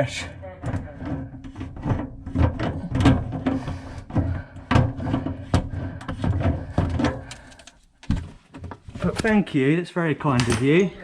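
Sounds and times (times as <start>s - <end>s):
hard objects knocking and clattering: 0.4s - 9.5s, 10.3s - 11.0s.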